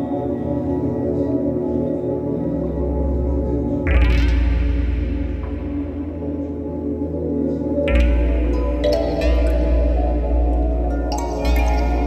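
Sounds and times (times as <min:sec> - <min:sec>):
dark ambient synthesizer drone: 0:00.0 - 0:12.0.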